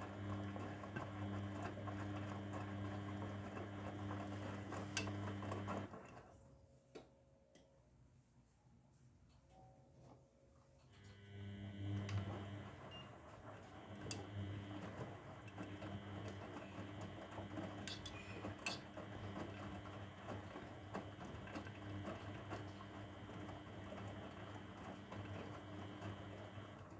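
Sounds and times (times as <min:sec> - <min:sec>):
washing machine motor hum: 0:00.0 - 0:06.3, 0:11.0 - 0:26.9.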